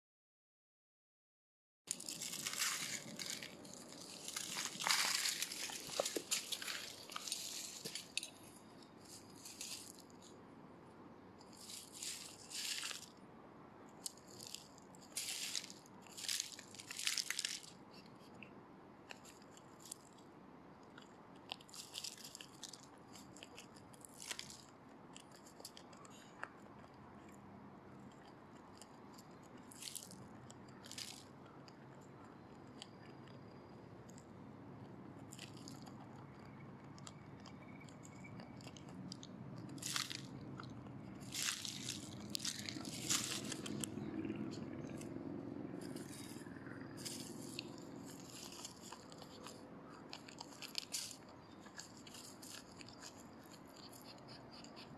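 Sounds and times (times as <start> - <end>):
dry leaves and soil rustling: 1.9 - 10.4, 11.4 - 13.2, 13.9 - 18.4, 19.1 - 20.2, 21.0 - 26.3, 28.2 - 32.9, 35.2 - 54.9.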